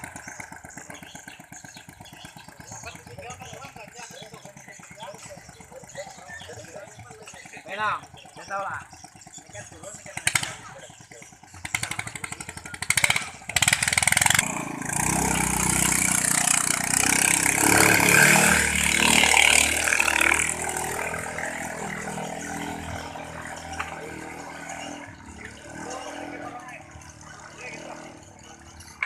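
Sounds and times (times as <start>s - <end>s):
boat engine clattering past: 0.0s - 29.0s.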